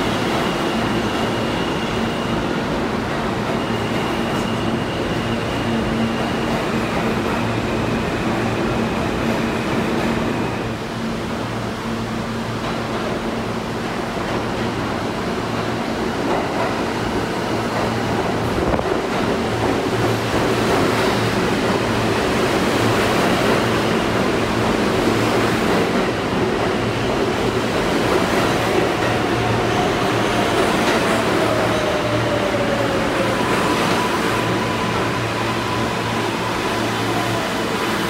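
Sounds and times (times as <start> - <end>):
subway train wheels rumbling on rail: 0.0 - 38.0.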